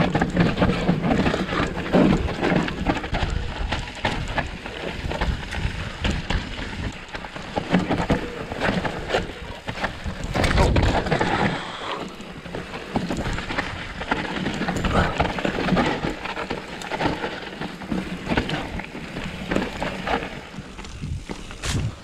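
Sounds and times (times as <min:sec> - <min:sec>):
mountain bike rattling: 0:00.0 - 0:22.0.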